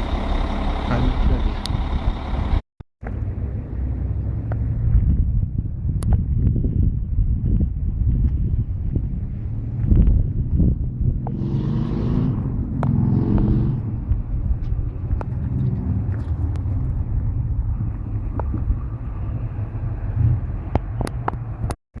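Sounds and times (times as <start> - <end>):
diesel engine running: 0.0 - 6.0, 7.7 - 21.7.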